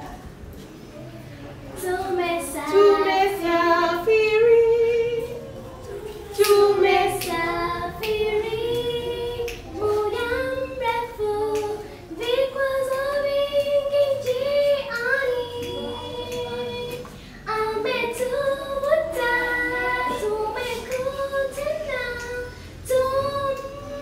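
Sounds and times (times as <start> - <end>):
child singing: 1.8 - 24.0.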